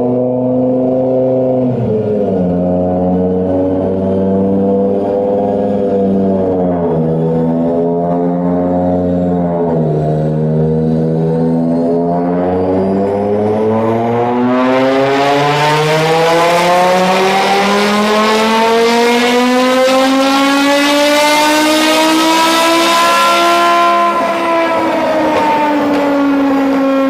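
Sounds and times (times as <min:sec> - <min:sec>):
car engine revving on dyno: 0:00.0 - 0:27.0.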